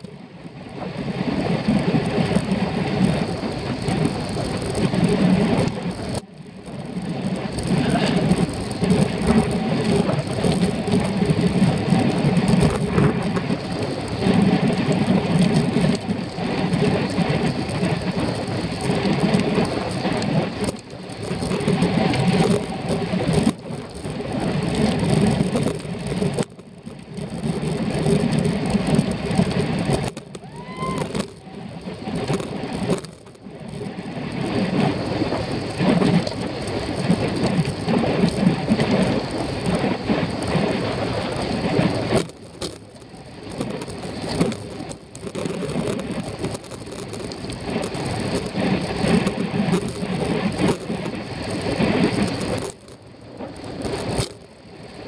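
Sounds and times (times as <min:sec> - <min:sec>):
tyre noise on asphalt: 0:00.0 - 0:55.0
wind buffeting microphone: 0:00.0 - 0:55.0.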